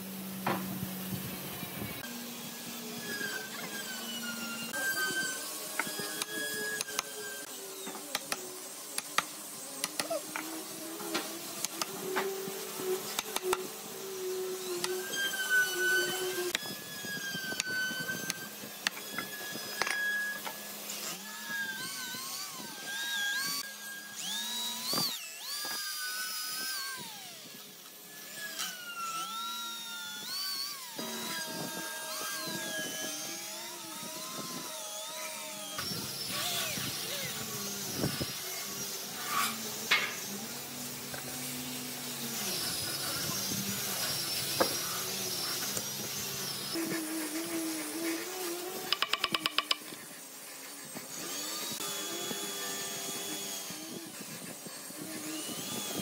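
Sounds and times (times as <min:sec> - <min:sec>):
electric drill boring into wood: 0:00.0 - 0:56.0.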